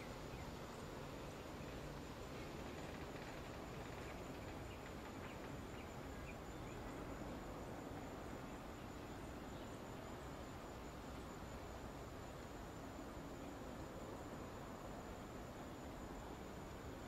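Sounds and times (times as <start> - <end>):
even outdoor hiss: 0.0 - 17.0.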